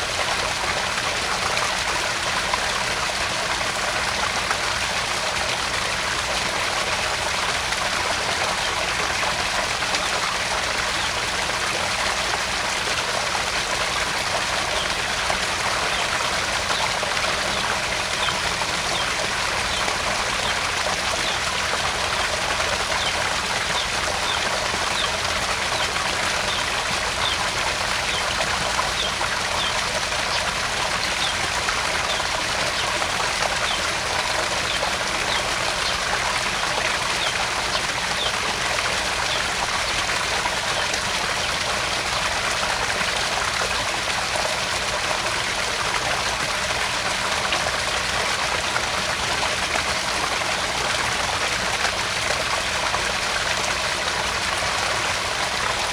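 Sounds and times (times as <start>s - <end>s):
water splashing into pond: 0.0s - 55.9s.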